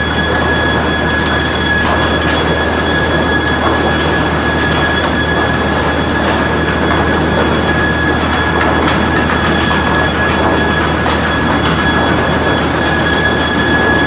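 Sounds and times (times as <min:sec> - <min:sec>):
machinery hum and whine: 0:00.0 - 0:14.0.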